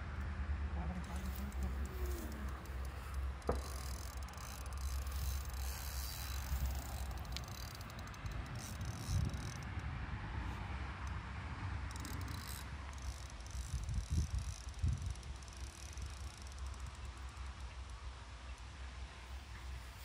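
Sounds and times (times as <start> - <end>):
fishing reel clicking: 1.0 - 9.9, 11.8 - 20.0.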